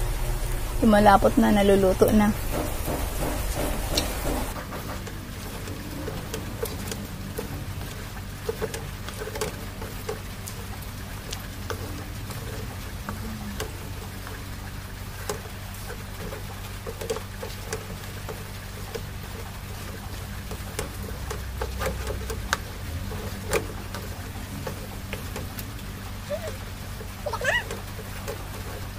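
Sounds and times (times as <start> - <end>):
steady low hum: 0.0 - 28.9
wooden spatula scraping a pan: 2.4 - 28.9.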